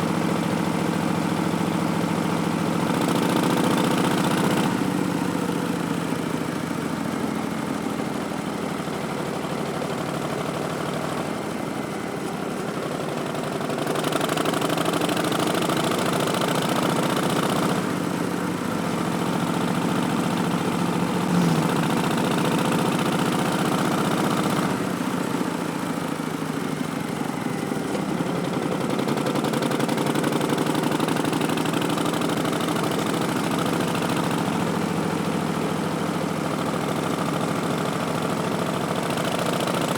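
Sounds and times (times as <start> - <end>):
motorcycle exhaust while riding: 0.0 - 39.9.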